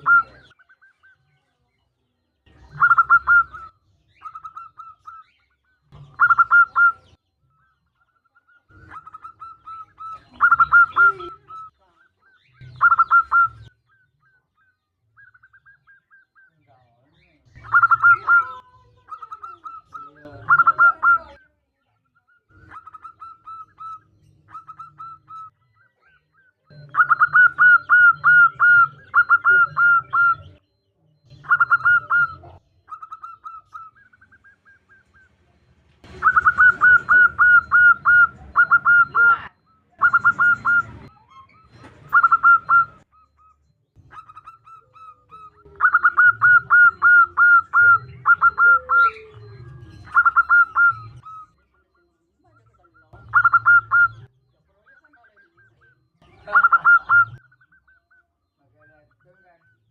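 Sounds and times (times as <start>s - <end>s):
dove cooing: 0.0s - 1.2s, 2.5s - 7.2s, 8.0s - 16.5s, 17.4s - 21.5s, 22.4s - 58.2s.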